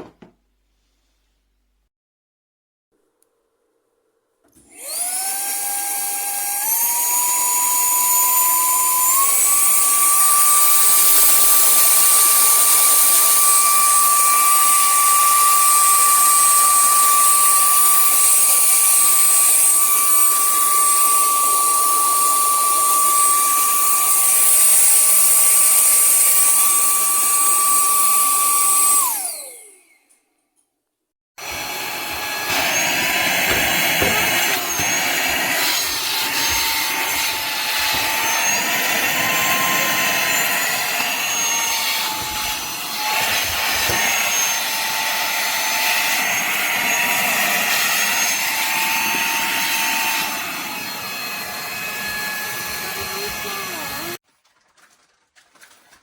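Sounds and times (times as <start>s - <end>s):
handheld vacuum cleaner whine: 4.5s - 30.2s, 31.4s - 54.2s.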